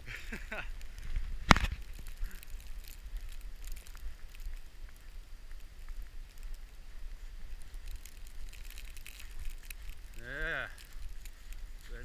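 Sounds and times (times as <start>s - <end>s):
light crackling: 0.0s - 12.0s
wind rumbling on microphone: 0.0s - 12.0s.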